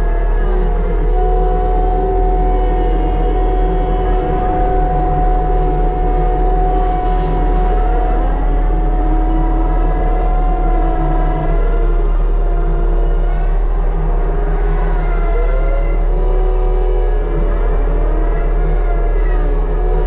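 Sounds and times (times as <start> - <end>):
excavator engine rumble: 0.0 - 20.0
hydraulic whine: 0.0 - 20.0.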